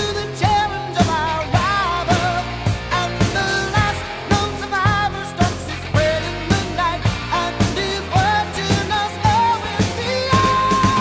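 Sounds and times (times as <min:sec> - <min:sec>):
person singing: 0:00.0 - 0:11.0
steady drum beat: 0:00.0 - 0:11.0.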